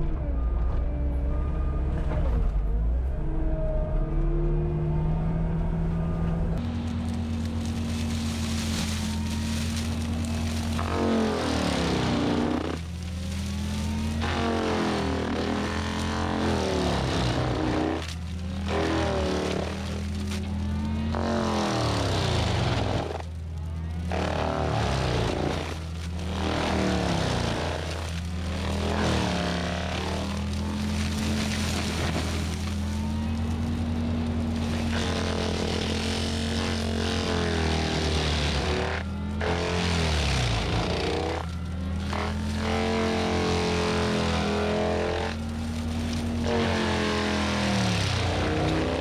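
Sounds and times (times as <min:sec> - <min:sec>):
diesel engine under heavy load: 0:00.0 - 0:49.0.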